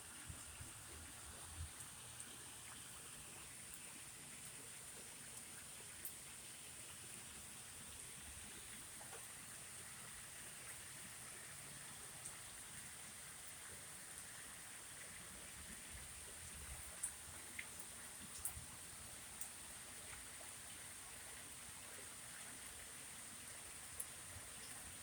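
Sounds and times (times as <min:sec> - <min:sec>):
light rain hiss: 0:00.0 - 0:25.0
small drip ticks: 0:00.2 - 0:25.0.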